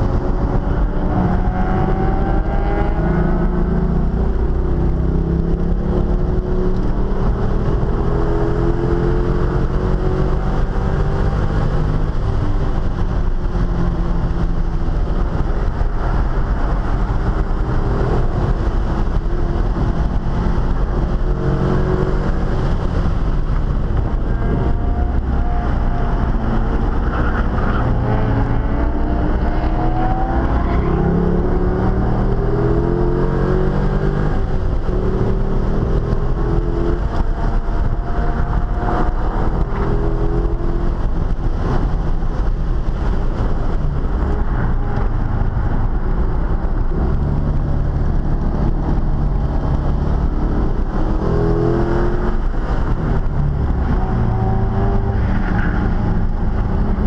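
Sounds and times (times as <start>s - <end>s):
car engine accelerating: 0.0s - 57.0s
road and wind noise: 0.0s - 57.0s.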